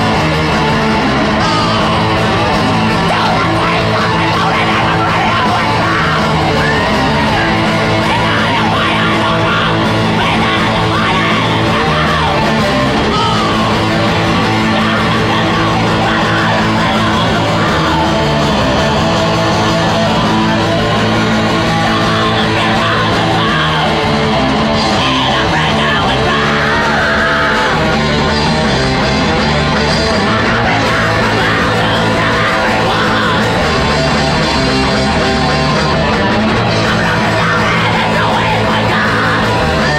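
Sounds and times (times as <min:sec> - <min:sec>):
distorted electric guitar and bass: 0:00.0 - 0:39.9
drum kit: 0:00.0 - 0:39.9
yelled vocals: 0:00.0 - 0:39.9.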